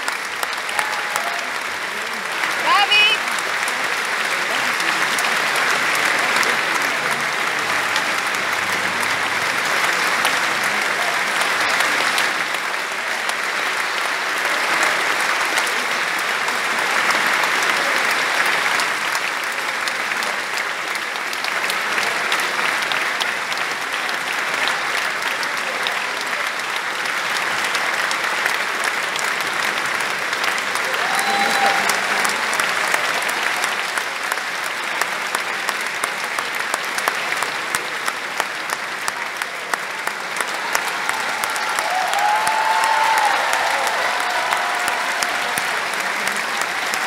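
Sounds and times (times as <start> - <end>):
audience applauding: 0.0 - 47.0.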